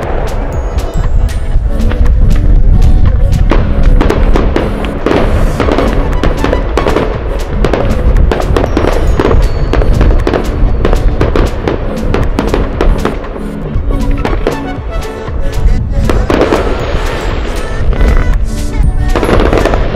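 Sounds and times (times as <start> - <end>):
background music with held tones: 0.0 - 19.9
fireworks bangs and crackles: 0.0 - 19.9.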